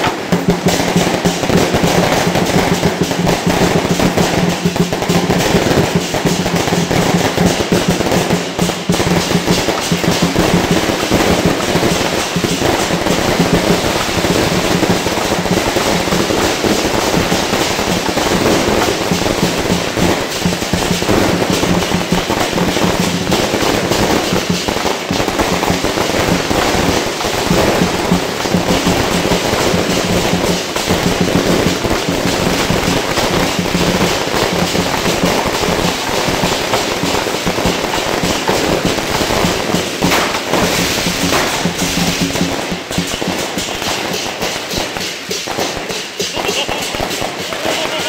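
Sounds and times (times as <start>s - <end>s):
fireworks crackling: 0.0s - 48.0s.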